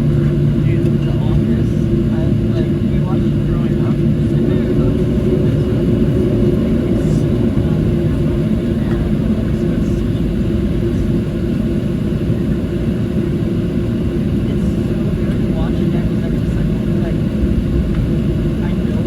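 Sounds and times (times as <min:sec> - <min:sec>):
aircraft cabin rumble: 0:00.0 - 0:19.0
even hum: 0:00.0 - 0:19.0.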